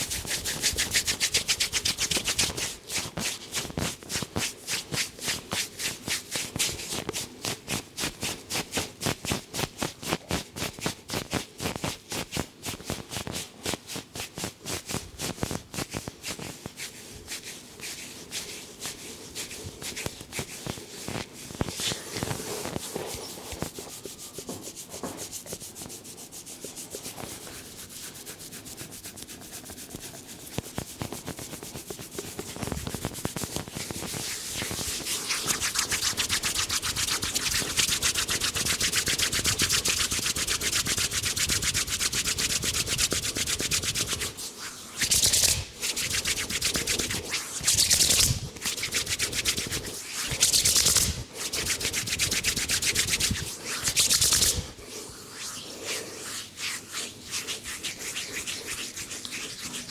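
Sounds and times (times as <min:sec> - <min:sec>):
rubbing strokes on scalp and hair: 0:00.0 - 0:59.9.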